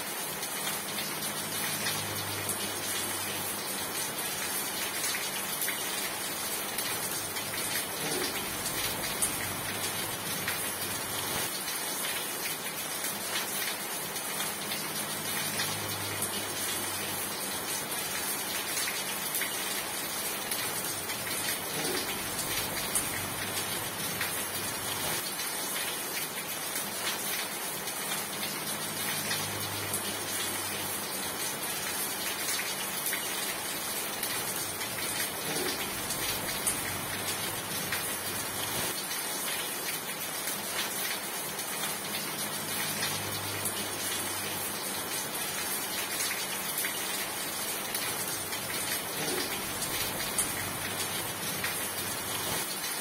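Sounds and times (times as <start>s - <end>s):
rain hissing: 0.0s - 12.1s, 13.3s - 25.6s, 26.9s - 39.5s, 40.4s - 53.0s.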